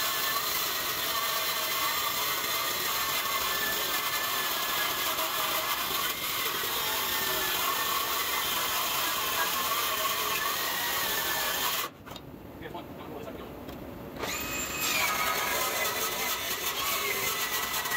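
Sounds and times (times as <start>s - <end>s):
circular saw cutting steel: 0.0s - 11.9s, 14.2s - 17.9s.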